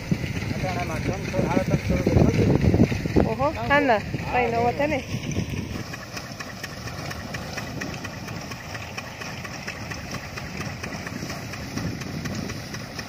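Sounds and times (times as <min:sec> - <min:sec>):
fine regular ticking: 0:00.0 - 0:13.0
thresher mechanical drone: 0:00.0 - 0:13.0.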